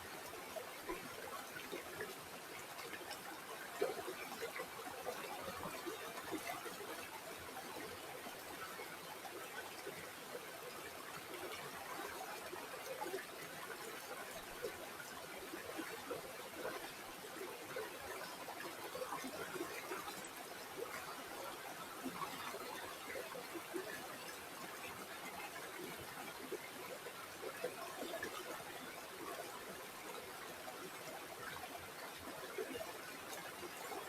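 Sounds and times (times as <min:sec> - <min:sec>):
river water flowing over stones: 0:00.0 - 0:34.0.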